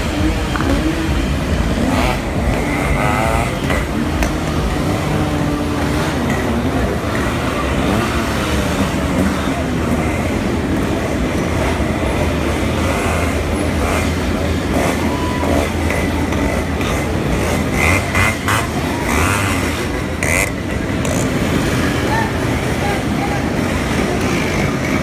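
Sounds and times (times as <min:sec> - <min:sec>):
motorcycles riding past: 0:00.0 - 0:25.0.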